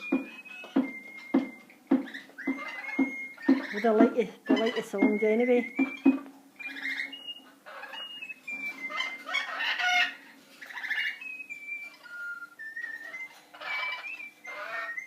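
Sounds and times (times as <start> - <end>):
high whistled notes: 0.0 - 9.6, 10.7 - 15.0
parrots chirping and squawking: 0.0 - 15.0.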